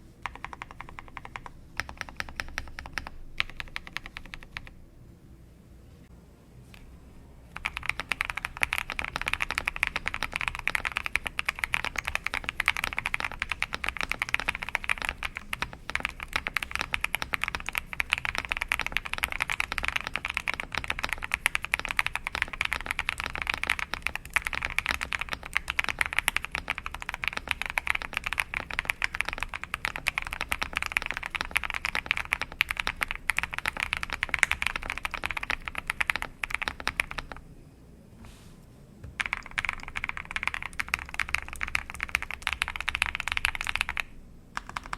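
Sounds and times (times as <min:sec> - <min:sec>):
mechanical keyboard typing: 0:00.2 - 0:04.7, 0:07.5 - 0:37.4, 0:39.2 - 0:44.9.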